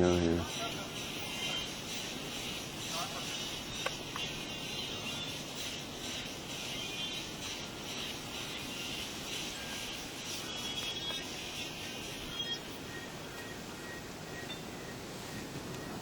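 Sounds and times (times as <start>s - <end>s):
blizzard wind and snow hiss: 0.0s - 16.0s.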